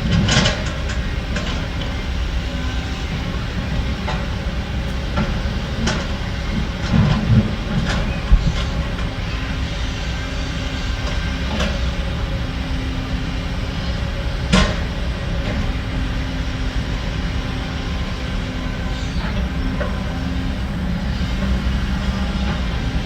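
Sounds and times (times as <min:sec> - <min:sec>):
heavy diesel machinery running: 0:00.0 - 0:23.0.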